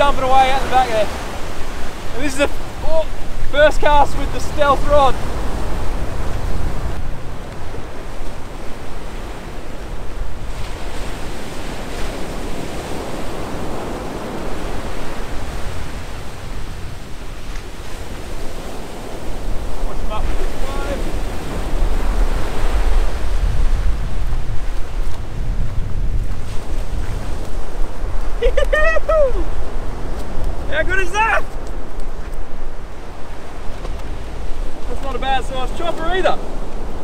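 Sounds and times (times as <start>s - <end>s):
surf breaking on beach: 0.0s - 37.0s
wind buffeting microphone: 0.0s - 37.0s.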